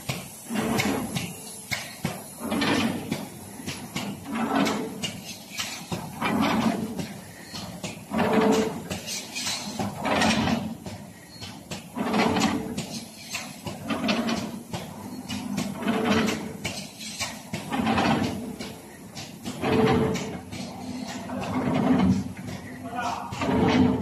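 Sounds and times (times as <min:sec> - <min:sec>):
pleating machine strokes: 0:00.0 - 0:24.0.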